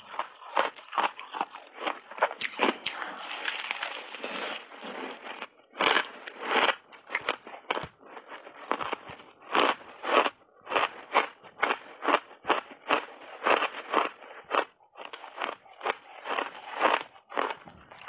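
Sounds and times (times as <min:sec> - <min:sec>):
crunchy ice being chewed: 0:00.0 - 0:18.0.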